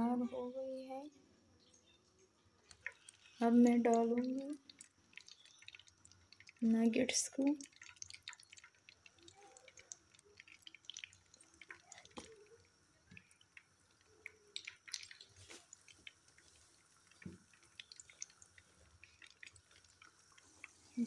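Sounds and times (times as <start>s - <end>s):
hot oil popping in frying pan: 2.6s - 21.0s.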